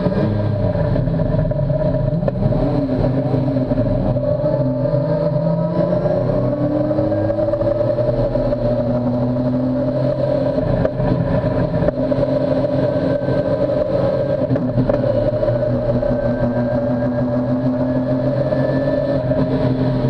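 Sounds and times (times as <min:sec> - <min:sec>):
race car engine under load: 0:00.0 - 0:20.0.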